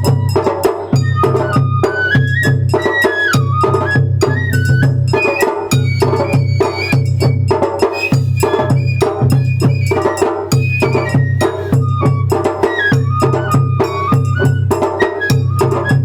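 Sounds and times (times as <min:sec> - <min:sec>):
bamboo flute melody: 0:00.0 - 0:16.0
rapid drum strikes: 0:00.0 - 0:16.0.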